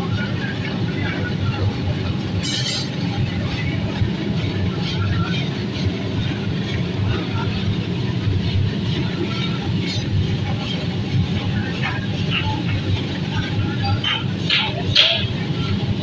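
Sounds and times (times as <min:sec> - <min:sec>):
forge blower rumbling: 0:00.0 - 0:16.0.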